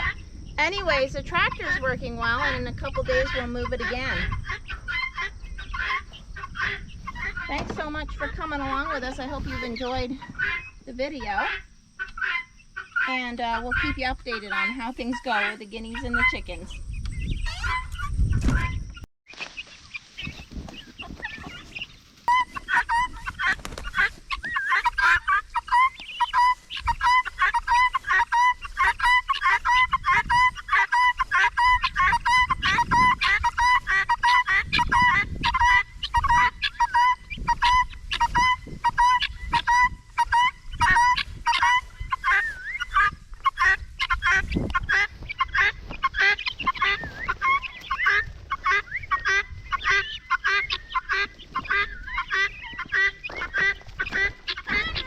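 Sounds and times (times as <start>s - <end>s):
guinea fowl calling: 0.0s - 55.0s.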